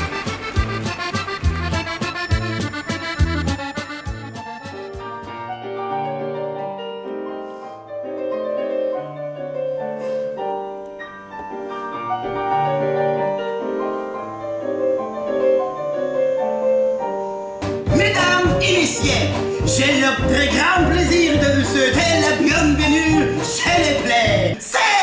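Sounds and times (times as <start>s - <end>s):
solo piano melody: 0.0s - 24.5s.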